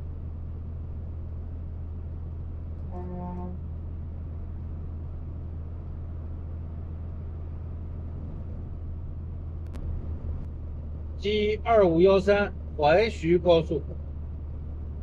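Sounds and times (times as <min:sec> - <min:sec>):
truck engine drone: 0:00.0 - 0:15.0
tyre and road noise: 0:00.0 - 0:15.0.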